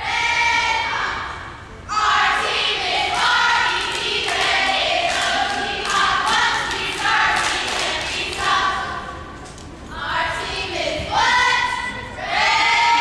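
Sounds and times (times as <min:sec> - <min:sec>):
girls chanting a cheer: 0:00.0 - 0:09.2, 0:09.9 - 0:13.0.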